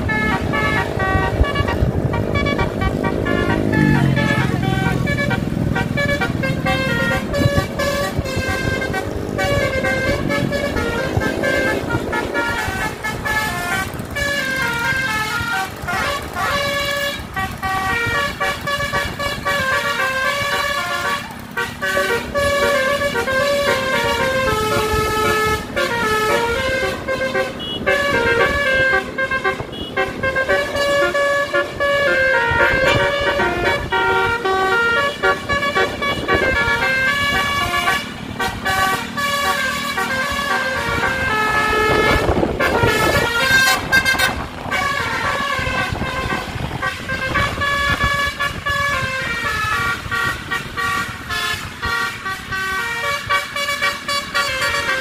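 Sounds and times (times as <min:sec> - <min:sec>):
bus air horn melody: 0:00.0 - 0:55.0
engine rumble: 0:00.0 - 0:55.0.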